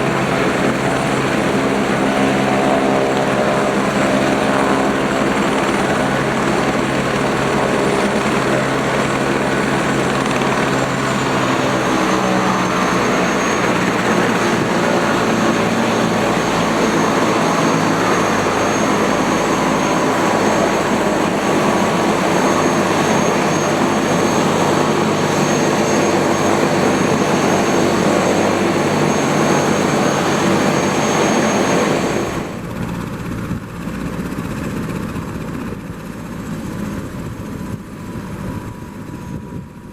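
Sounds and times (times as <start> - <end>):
helicopter engine whine: 0.0 - 39.9
helicopter rotor noise: 0.0 - 39.9.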